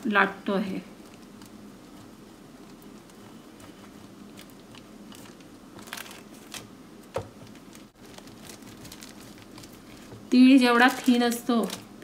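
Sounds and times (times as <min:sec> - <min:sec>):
plastic sheets crinkling: 0:01.0 - 0:12.0.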